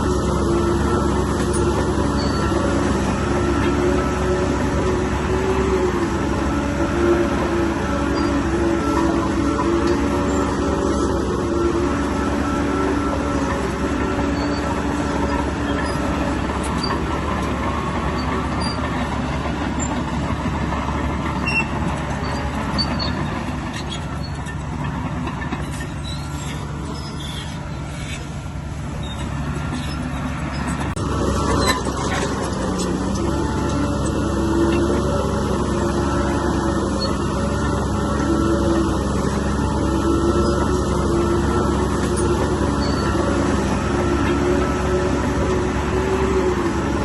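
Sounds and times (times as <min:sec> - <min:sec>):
diesel machinery running: 0:00.0 - 0:47.0.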